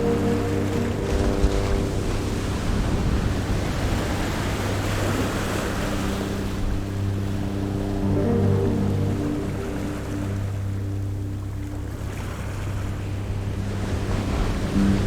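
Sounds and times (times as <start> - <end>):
rushing surf-like noise: 0.0 - 10.7, 11.5 - 15.0
background music held chords: 0.0 - 15.0.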